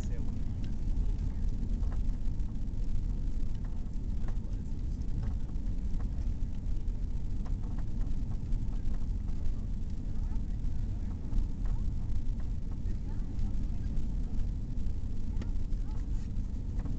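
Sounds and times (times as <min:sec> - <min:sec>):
aircraft cabin rumble: 0:00.0 - 0:16.9
faint clicks: 0:00.2 - 0:16.9.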